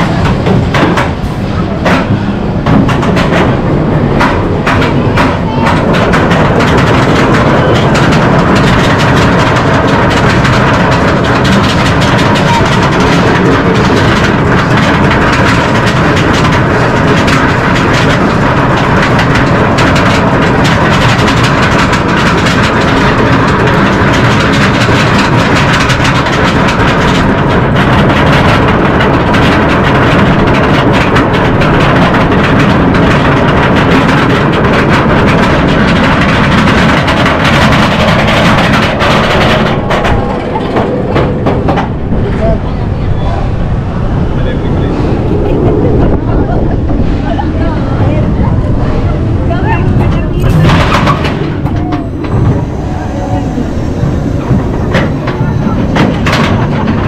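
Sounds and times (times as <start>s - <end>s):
roller coaster track rumble: 0.0s - 57.0s
rush of wind: 0.0s - 57.0s.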